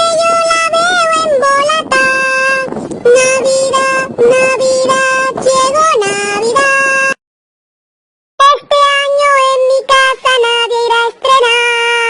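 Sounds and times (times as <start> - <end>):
synthetic singing voice: 0.0 - 7.2, 8.4 - 12.0.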